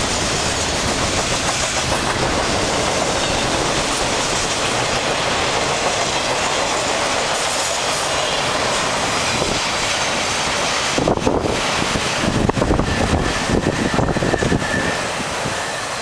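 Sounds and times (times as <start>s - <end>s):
freight cars rolling on rails: 0.0s - 16.0s.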